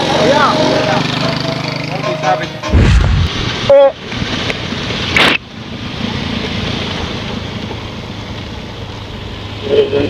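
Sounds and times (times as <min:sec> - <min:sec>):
scooter engine hum: 0:00.0 - 0:02.6, 0:03.3 - 0:10.0
wind and road noise: 0:00.0 - 0:10.0.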